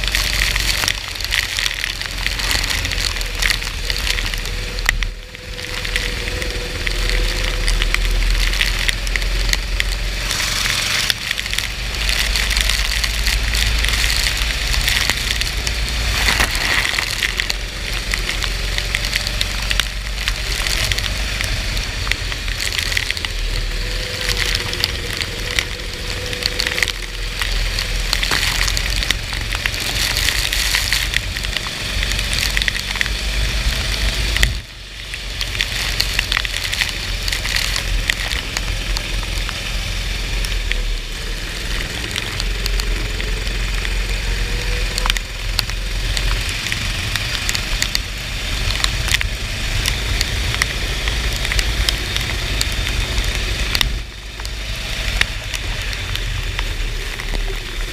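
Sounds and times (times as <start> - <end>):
kart engine rumble: 0.0 - 57.9
rain and spray crackling: 0.0 - 57.9.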